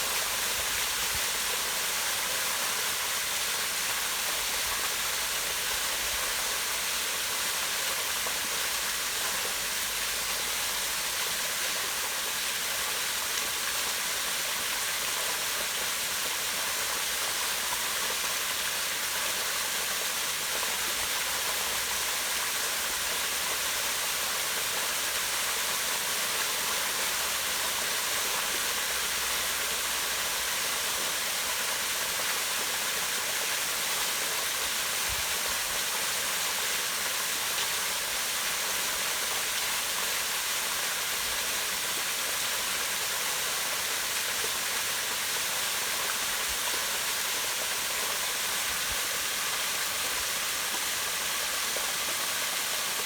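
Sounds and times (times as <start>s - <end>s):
waterfall splashing into pond: 0.0s - 53.0s.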